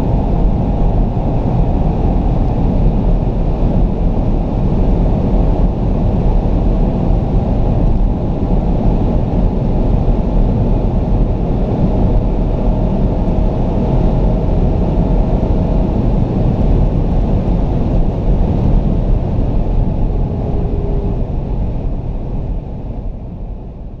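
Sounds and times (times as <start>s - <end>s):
car driving at high speed: 0.0s - 24.0s
faint steady whine: 0.0s - 24.0s.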